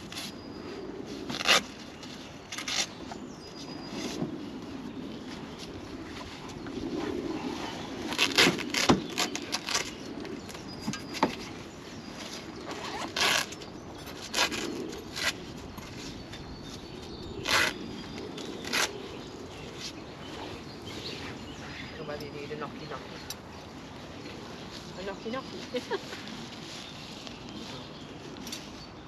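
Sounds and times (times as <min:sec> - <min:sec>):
camping gear rustling: 0:00.0 - 0:29.0.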